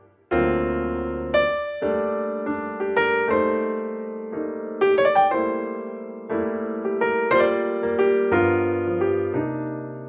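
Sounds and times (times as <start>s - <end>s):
piano notes and chords: 0.0s - 10.0s.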